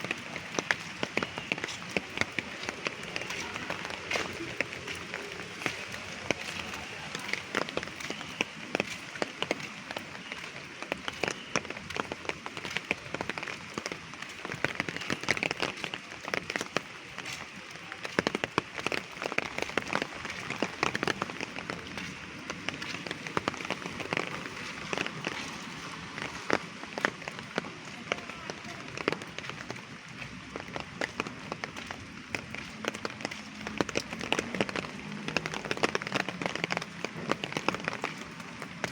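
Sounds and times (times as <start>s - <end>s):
hiss of falling rain: 0.0s - 38.9s.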